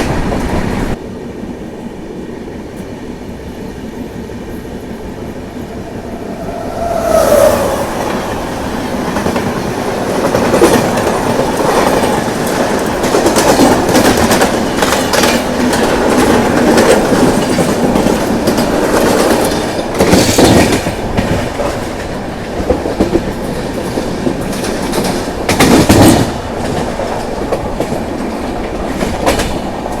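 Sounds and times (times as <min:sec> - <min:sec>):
loud train clanks: 0:02.4 - 0:30.0.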